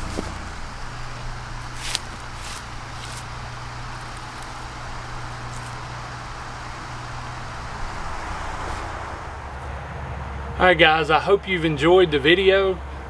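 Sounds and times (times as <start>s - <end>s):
skid steer engine running: 0.0s - 10.6s.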